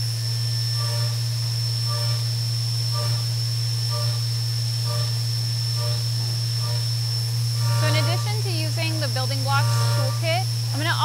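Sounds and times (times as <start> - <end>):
high whine: 0.0 - 11.0
milling machine low hum: 0.0 - 11.0.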